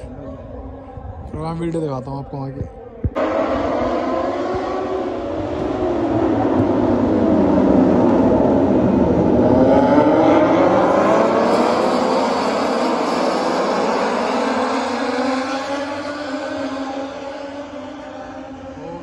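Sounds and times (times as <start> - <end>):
racing motorcycles passing: 3.2 - 19.0.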